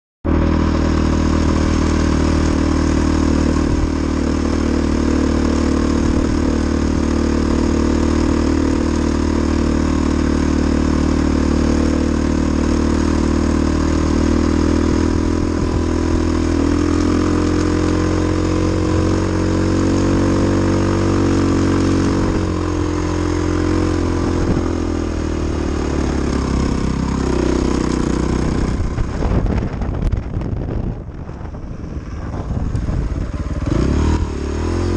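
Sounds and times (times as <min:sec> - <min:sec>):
dirt bike engine running: 0:00.2 - 0:34.9.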